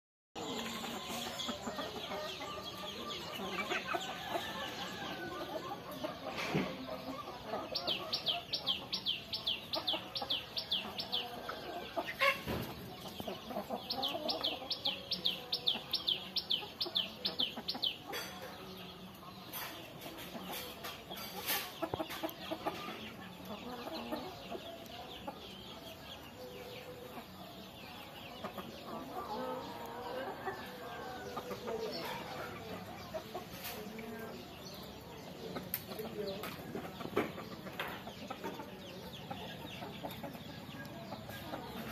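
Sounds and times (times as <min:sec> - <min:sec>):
chickens clucking and calling: 0:00.4 - 0:41.9.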